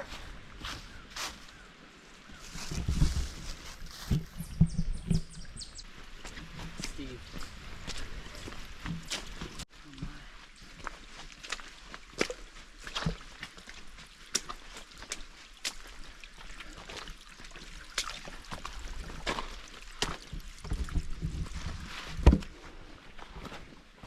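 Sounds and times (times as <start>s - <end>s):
footsteps on rough trail: 0.0s - 24.0s.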